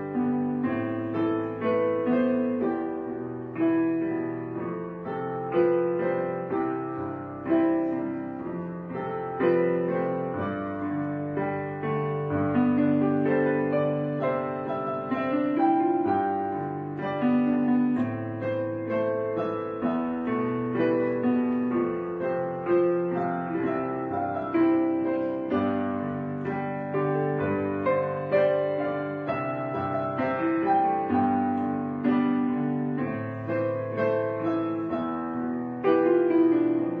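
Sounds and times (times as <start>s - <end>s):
slow piano music: 0.0s - 37.0s.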